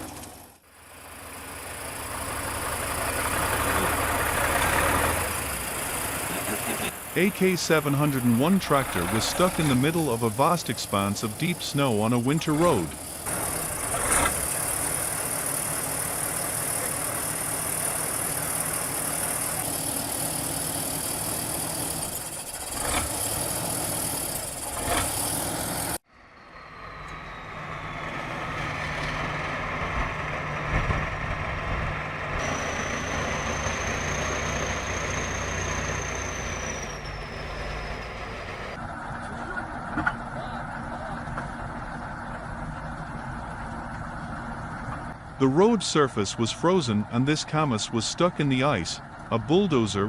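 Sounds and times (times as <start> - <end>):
heavy engine with thin whine: 0.0 - 50.0
tractor diesel engine running: 0.0 - 50.0.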